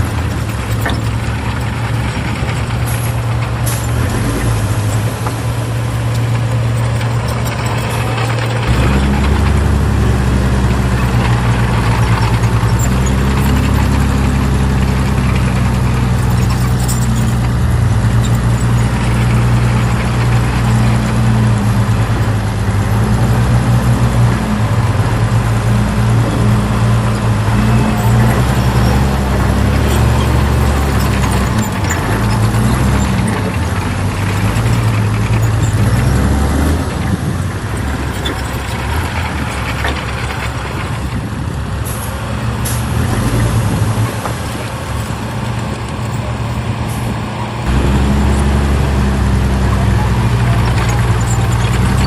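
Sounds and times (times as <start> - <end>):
heavy diesel engine droning: 0.0 - 52.0.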